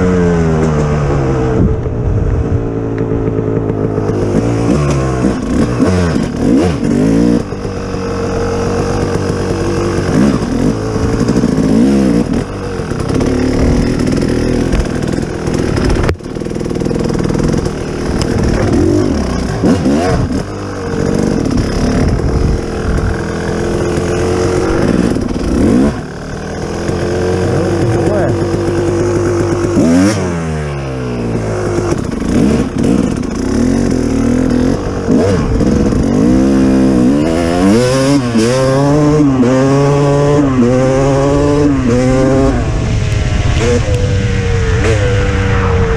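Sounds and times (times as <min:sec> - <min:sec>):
engine revving: 0:00.0 - 0:45.9.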